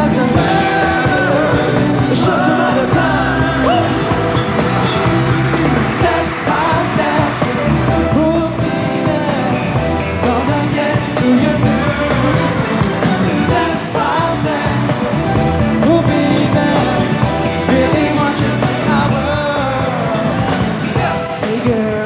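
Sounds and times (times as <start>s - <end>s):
pop song with male singing: 0.0s - 22.0s.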